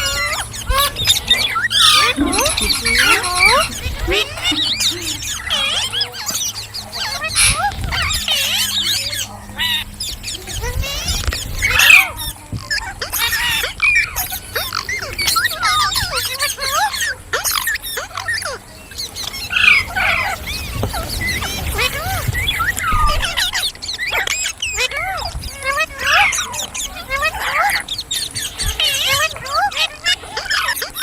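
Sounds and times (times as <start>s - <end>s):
parrots chirping and squeaking: 0.0s - 31.0s.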